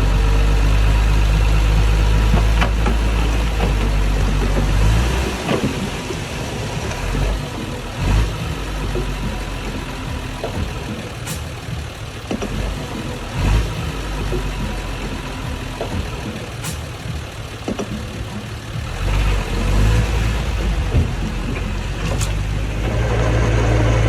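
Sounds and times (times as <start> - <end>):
clanks and knocks: 0.0 - 24.0
diesel engine drone: 0.0 - 24.0.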